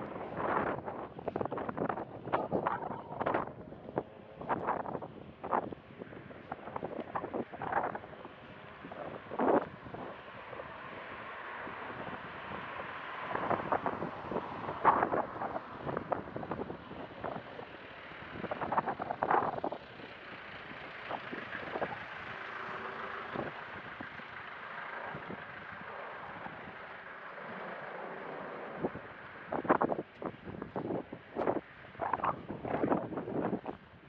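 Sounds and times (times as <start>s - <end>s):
wind buffeting the microphone: 0.0s - 22.5s, 23.2s - 24.3s, 25.0s - 34.0s
steady outdoor hiss: 0.0s - 34.0s.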